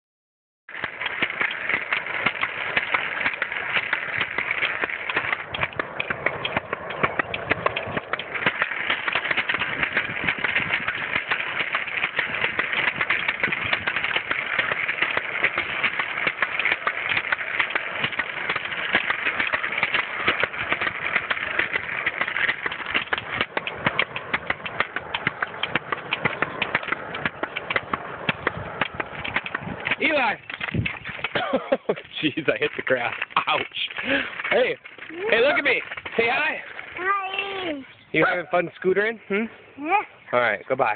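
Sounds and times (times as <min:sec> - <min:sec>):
scooter wheels rolling on concrete: 0:00.7 - 0:40.9.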